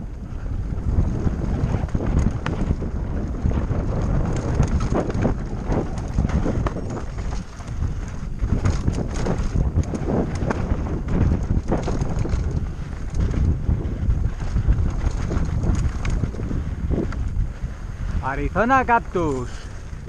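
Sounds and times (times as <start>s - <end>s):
wind buffeting microphone: 0.0s - 20.0s
bike knocks and rattles: 0.8s - 17.4s.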